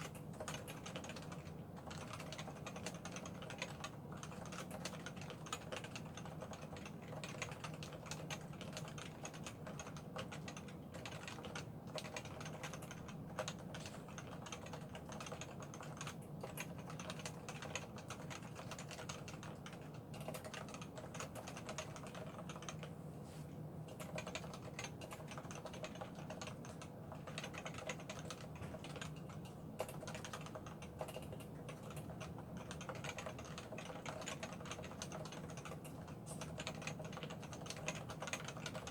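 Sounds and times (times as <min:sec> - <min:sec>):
keyboard typing: 0:00.0 - 0:23.0, 0:23.8 - 0:38.9.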